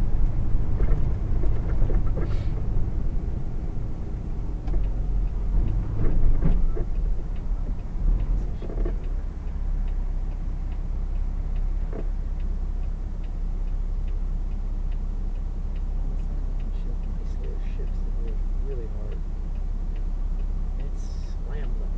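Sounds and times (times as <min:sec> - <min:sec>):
truck engine running low: 0:00.0 - 0:21.9
turn signal clicking: 0:00.0 - 0:21.9.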